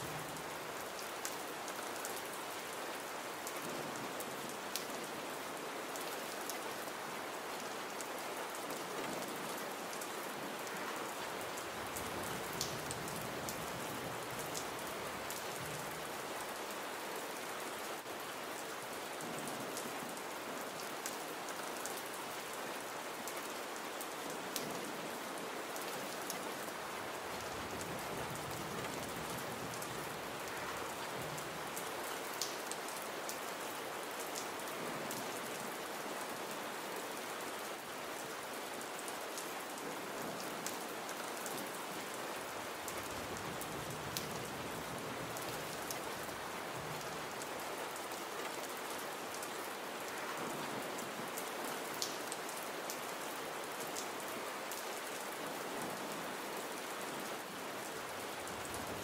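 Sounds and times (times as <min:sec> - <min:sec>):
gentle rain hiss: 0:00.0 - 0:59.0.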